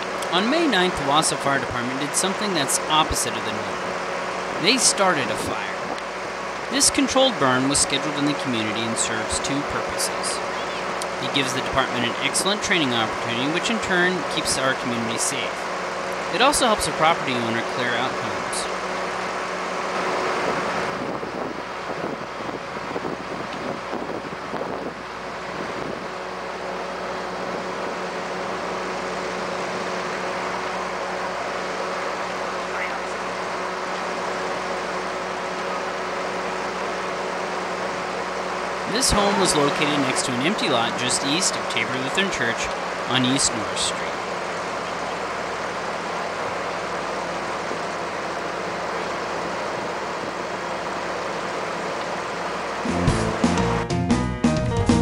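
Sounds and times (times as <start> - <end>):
broad rushing noise: 0.0 - 53.8
engine humming: 0.0 - 55.0.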